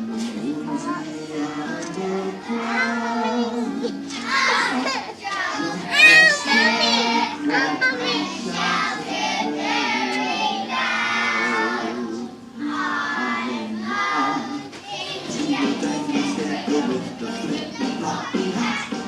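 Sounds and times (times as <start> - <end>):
children singing together: 0.0 - 19.0
musical accompaniment: 0.0 - 19.0.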